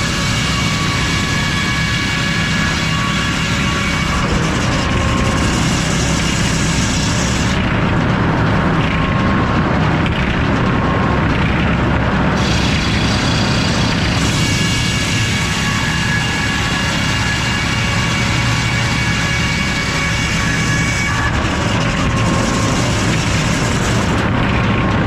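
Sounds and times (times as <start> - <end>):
circular saw whining: 0.0 - 7.9, 12.2 - 25.0.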